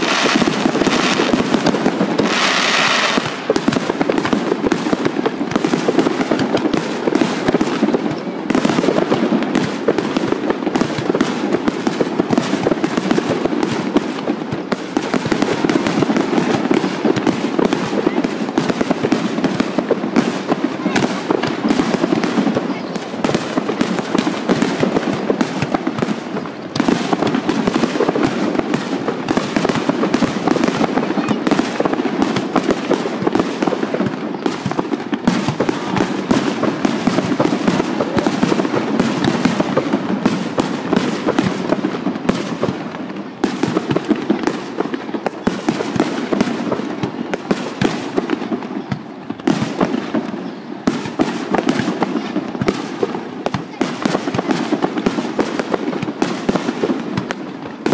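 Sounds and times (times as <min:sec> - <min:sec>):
fireworks bursting and crackling: 0:00.0 - 0:57.9.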